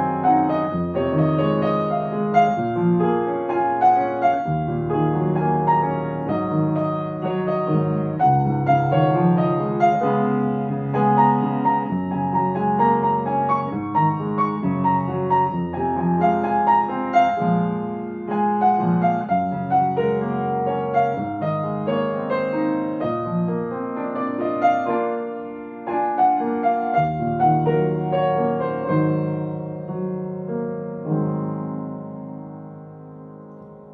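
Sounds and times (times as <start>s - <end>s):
piano ballad: 0.0s - 33.9s.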